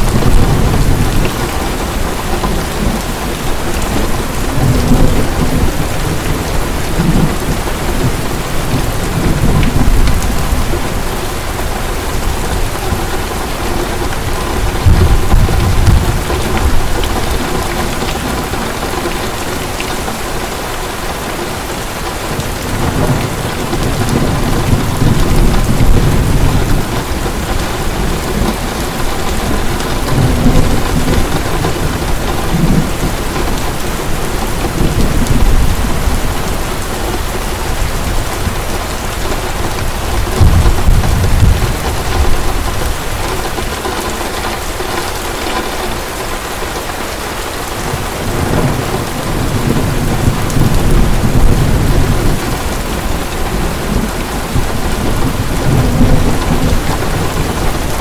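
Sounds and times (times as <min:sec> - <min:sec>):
deep thunder rolls: 0:00.0 - 0:19.7, 0:22.4 - 0:43.7, 0:47.9 - 0:58.0
heavy rain pouring: 0:00.0 - 0:58.0.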